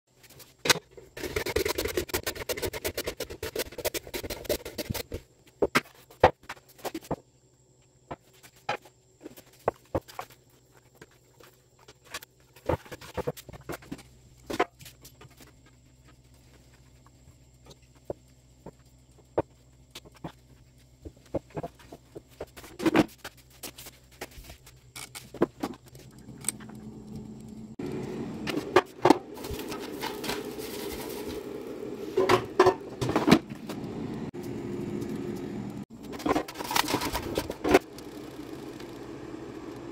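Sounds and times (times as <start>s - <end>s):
steady low hum: 6.6s - 39.9s.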